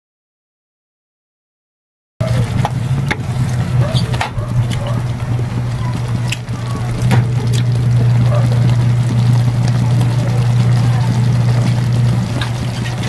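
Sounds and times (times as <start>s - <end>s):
steady low hum: 2.2s - 13.0s.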